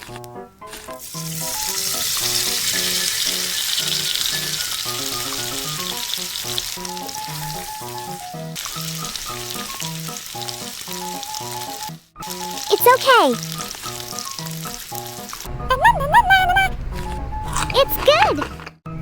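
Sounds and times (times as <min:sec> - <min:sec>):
chicken frying in oil: 0:00.0 - 0:16.4.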